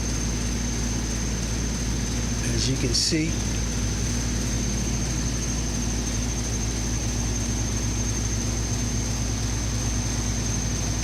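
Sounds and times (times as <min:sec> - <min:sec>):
low electrical drone: 0:00.0 - 0:11.0
thin high whine: 0:00.0 - 0:11.0.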